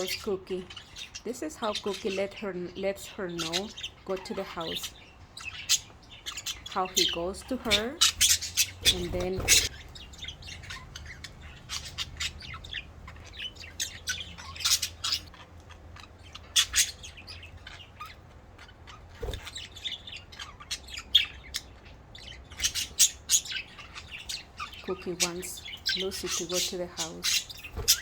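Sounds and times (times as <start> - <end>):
budgerigars chirping: 0.0 - 28.0.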